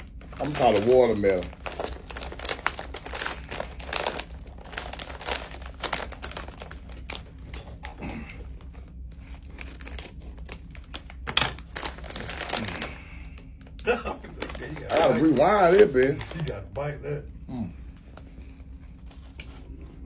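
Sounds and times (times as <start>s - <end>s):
candy packaging crinkling and tearing: 0.0s - 16.8s.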